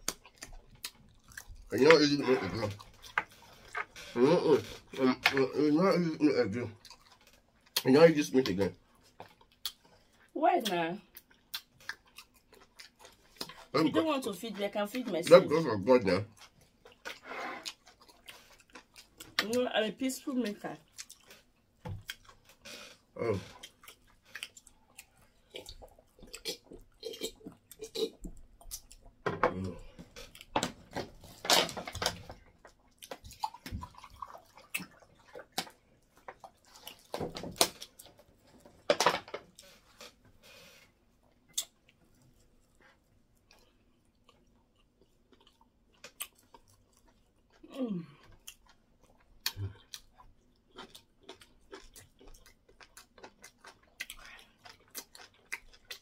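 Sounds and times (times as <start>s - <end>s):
people chewing: 0.0s - 56.0s.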